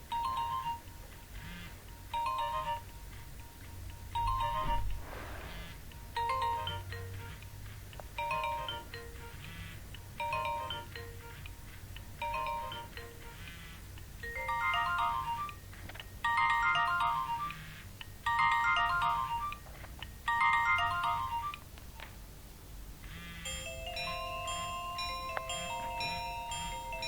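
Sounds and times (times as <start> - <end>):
different ringtone: 0.0 - 21.6, 23.1 - 27.0
mobile phone beeping ringtone: 0.1 - 7.6, 8.2 - 19.7, 20.3 - 21.6, 23.1 - 27.0.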